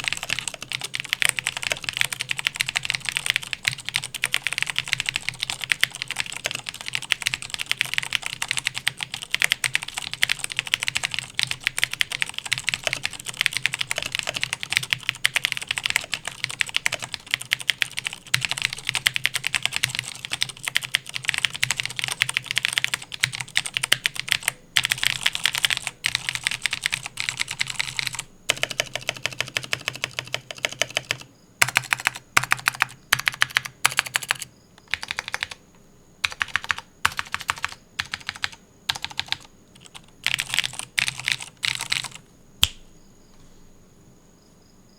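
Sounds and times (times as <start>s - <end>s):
fast typing on clicky keyboard: 0.0s - 42.8s.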